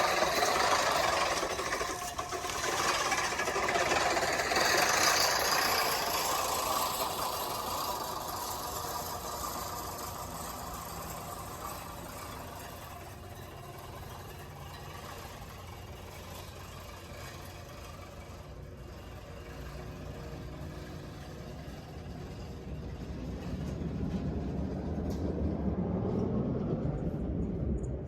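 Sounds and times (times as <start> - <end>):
push reel mower whirring: 0.0 - 24.2.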